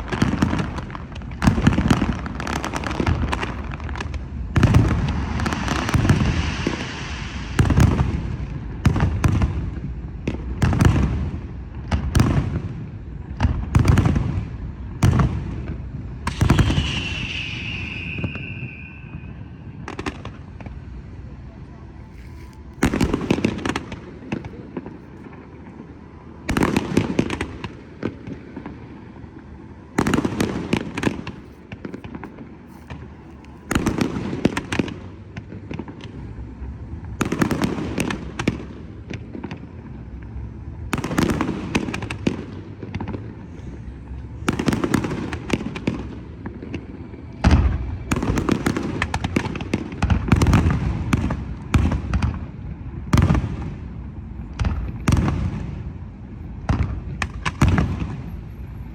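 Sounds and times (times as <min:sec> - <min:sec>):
fireworks crackling bangs: 0:00.0 - 0:58.9.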